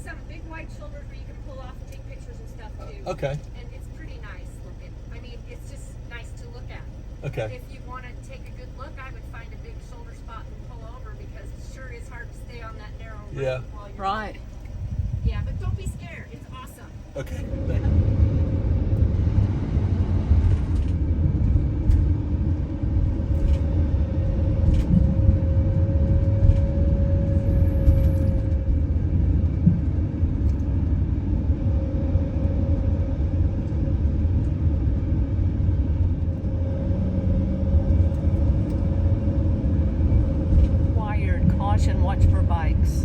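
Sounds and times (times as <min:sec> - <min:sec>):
engine and road rumble: 0:00.0 - 0:43.0
faint steady hum: 0:00.0 - 0:43.0.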